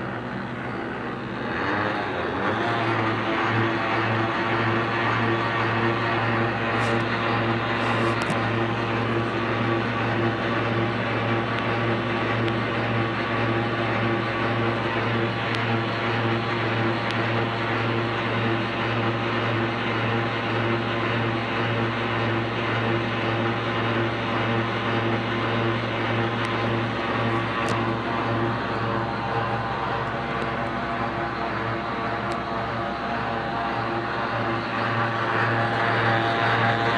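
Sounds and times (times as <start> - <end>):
lathe running: 0.0 - 36.9.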